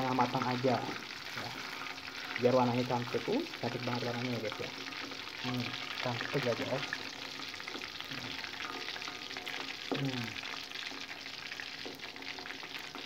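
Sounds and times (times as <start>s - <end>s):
tofu sizzling in hot oil: 0.0s - 13.0s.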